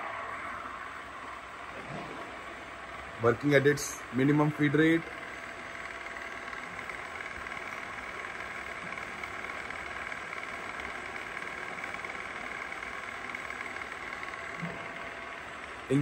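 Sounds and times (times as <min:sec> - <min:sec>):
radial arm drill running: 0:00.0 - 0:16.0.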